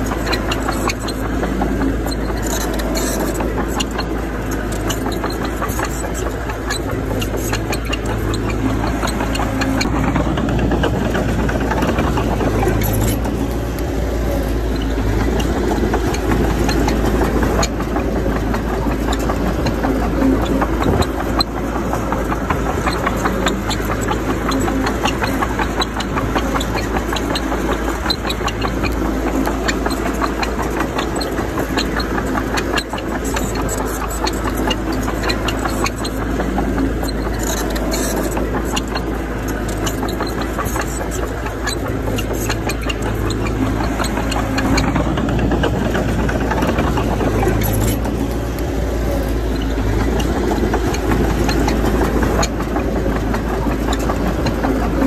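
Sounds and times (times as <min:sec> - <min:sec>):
bulldozer diesel engine running: 0:00.0 - 0:55.0
small clicks and knocks: 0:00.0 - 0:55.0.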